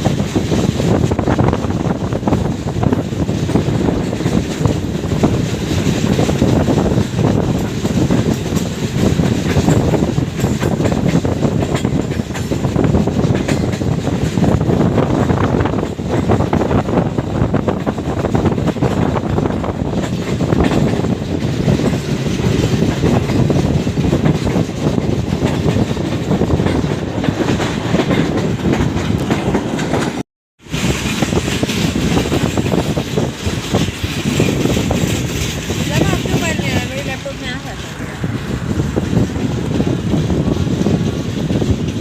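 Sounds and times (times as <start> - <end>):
passenger train rumbling: 0.0 - 42.0
wheels clacking over rail joints: 0.0 - 42.0.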